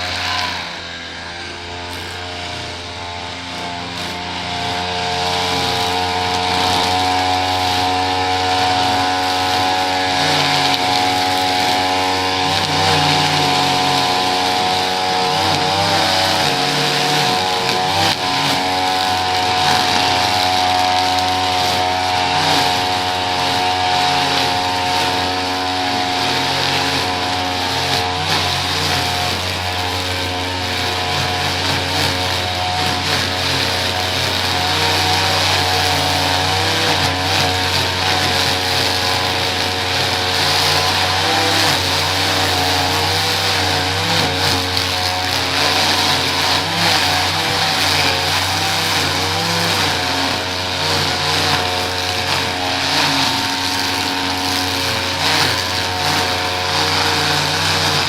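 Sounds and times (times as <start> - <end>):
small petrol engine running: 0.0 - 58.0.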